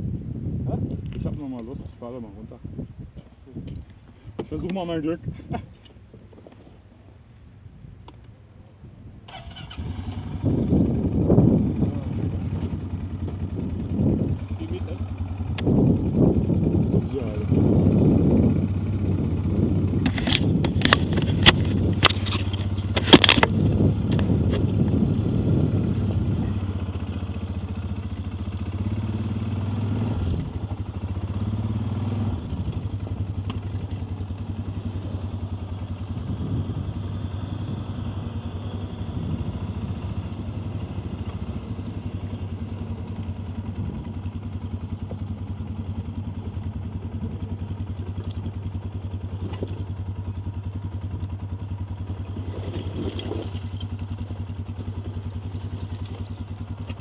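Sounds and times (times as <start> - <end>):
quad bike engine running: 9.3 - 57.0.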